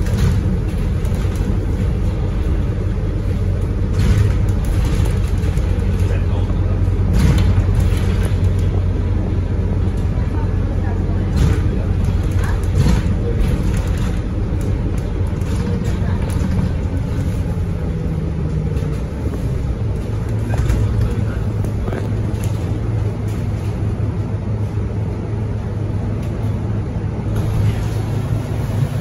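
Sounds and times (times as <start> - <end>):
bus diesel engine droning: 0.0 - 29.0
road noise: 0.0 - 29.0.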